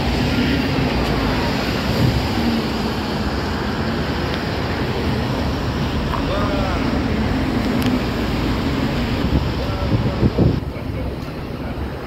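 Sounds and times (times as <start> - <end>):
road traffic: 0.0 - 12.0
wind rumbling on microphone: 0.0 - 12.0.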